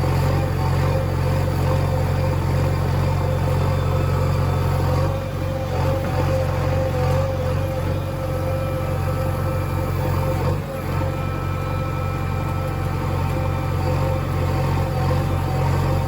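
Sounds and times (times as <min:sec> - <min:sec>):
heavy engine running: 0:00.0 - 0:16.0.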